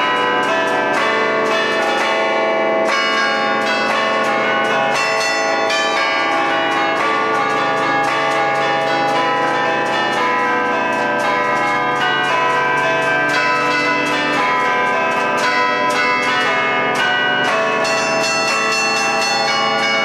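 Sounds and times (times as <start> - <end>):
church bells playing a tune: 0.0 - 20.0.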